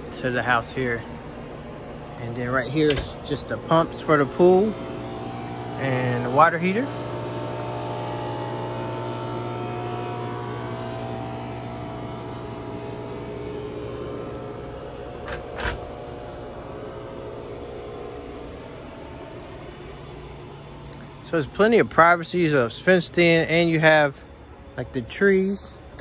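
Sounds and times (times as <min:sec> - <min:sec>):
pool pump motor humming: 0:00.0 - 0:26.0.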